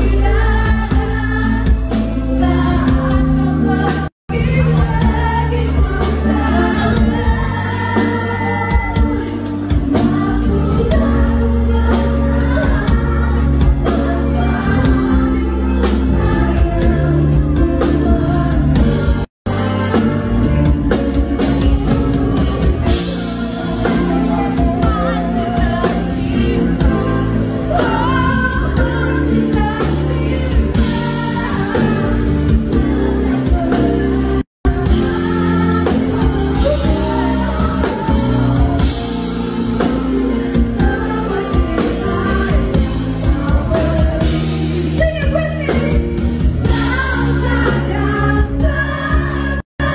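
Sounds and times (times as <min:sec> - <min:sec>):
instrumental backing music: 0:00.0 - 0:49.9
woman singing slow pop song: 0:00.0 - 0:49.9.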